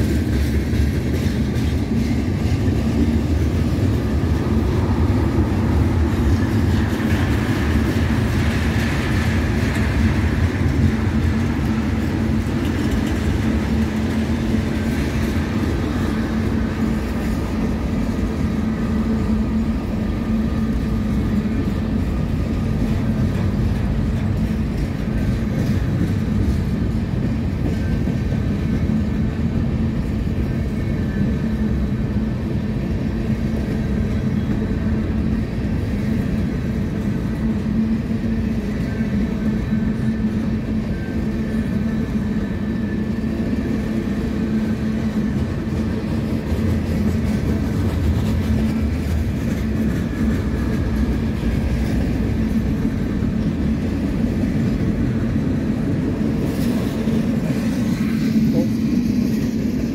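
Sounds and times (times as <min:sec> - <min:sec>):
freight train cars rolling on rails: 0:00.0 - 0:59.9.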